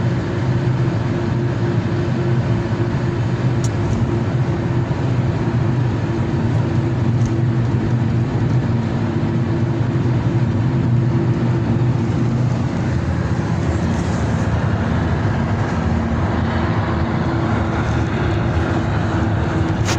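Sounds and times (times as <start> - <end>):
car engine drone: 0.0 - 19.9
road noise: 0.0 - 19.9.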